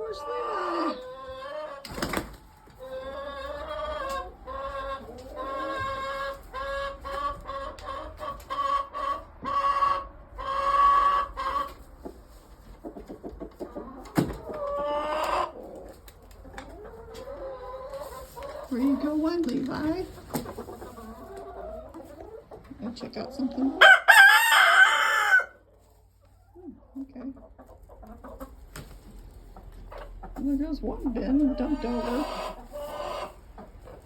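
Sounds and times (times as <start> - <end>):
chicken clucking: 0.0 - 34.0.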